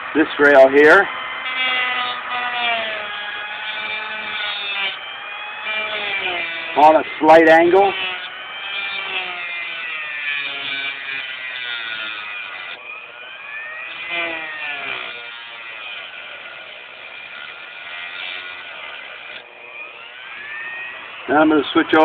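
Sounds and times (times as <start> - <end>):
rotary grinder grinding metal: 0.0 - 22.0.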